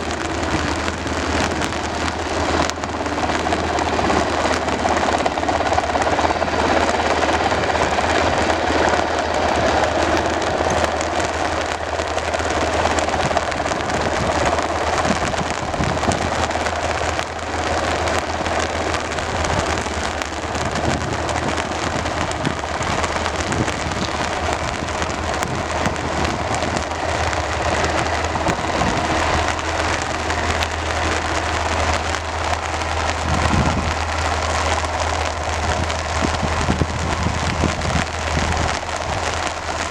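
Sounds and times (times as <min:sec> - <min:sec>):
low hum: 0:00.0 - 0:39.9
rain falling: 0:00.0 - 0:39.9.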